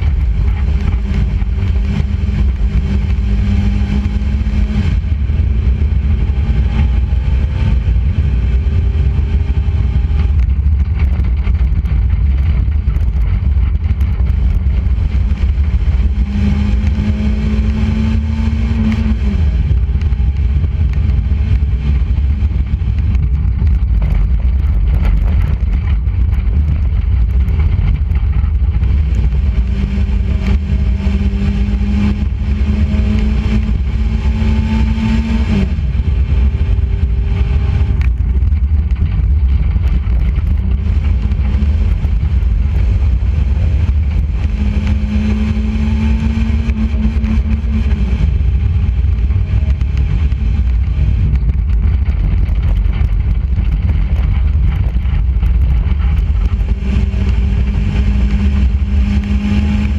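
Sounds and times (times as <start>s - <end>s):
race car engine running hard: 0.0s - 59.9s
wind rumble on microphone: 0.0s - 59.9s.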